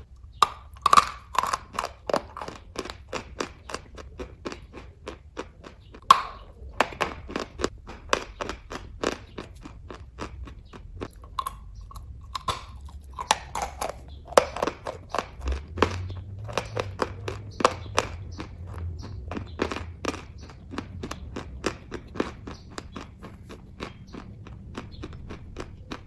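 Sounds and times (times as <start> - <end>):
chewing mouth clicks and smacks: 0.0 - 26.0.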